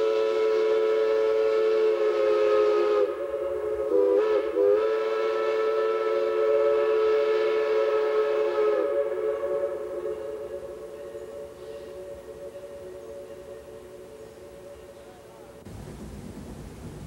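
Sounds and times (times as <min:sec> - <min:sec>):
steam locomotive chime whistle: 0:00.0 - 0:15.6.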